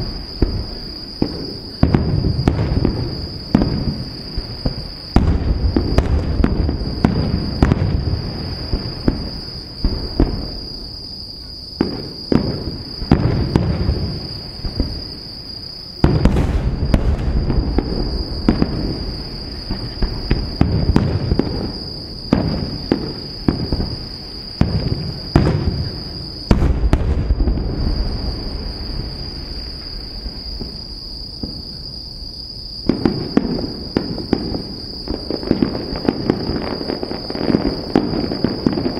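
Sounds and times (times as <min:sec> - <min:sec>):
fireworks bursting and crackling: 0:00.0 - 0:38.9.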